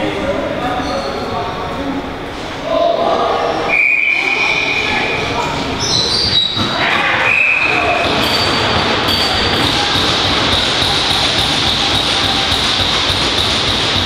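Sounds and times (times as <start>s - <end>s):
crowd cheering and shouting: 2.6s - 14.0s.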